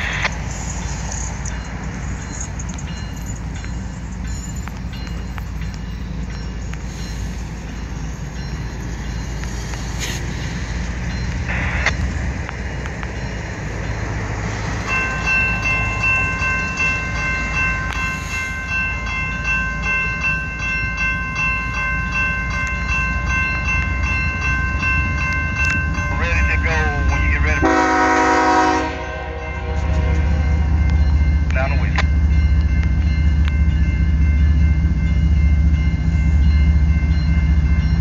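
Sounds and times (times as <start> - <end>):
crossing warning bell ringing: 0.0 - 38.0.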